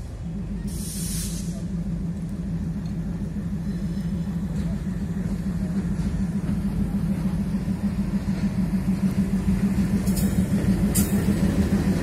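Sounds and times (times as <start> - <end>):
diesel locomotive engine droning: 0.0 - 12.0.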